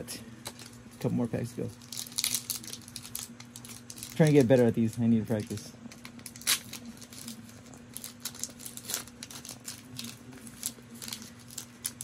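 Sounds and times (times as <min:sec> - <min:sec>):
faint steady hum: 0:00.0 - 0:12.0
foil wrapper crinkling and tearing: 0:00.4 - 0:12.0.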